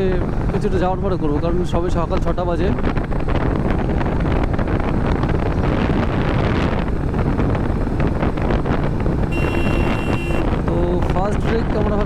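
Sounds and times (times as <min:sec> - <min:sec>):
motorcycle engine and road noise: 0:00.0 - 0:12.0
wind buffeting microphone: 0:00.0 - 0:12.0.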